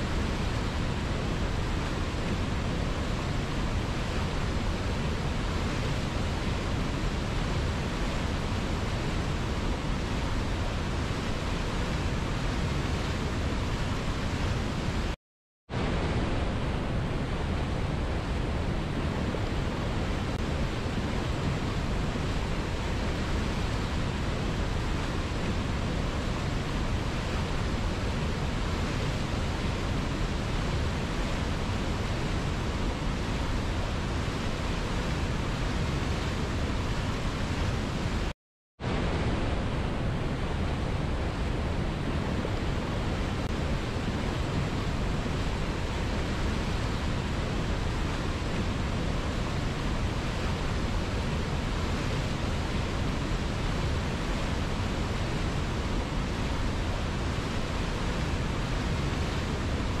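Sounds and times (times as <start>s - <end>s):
water rushing over boulders: 0.0s - 60.0s.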